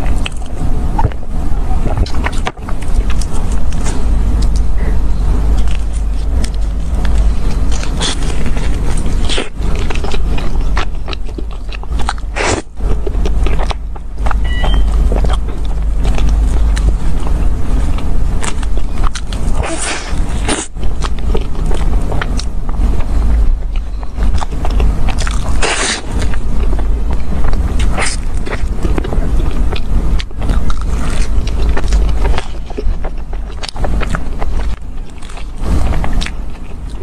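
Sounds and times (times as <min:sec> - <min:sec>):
person biting and chewing: 0:00.0 - 0:37.0
steady low rumble: 0:00.0 - 0:37.0.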